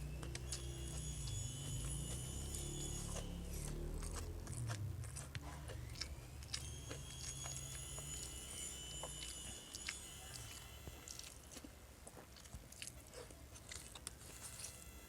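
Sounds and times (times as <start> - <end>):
person chewing and biting: 0.0 - 15.0.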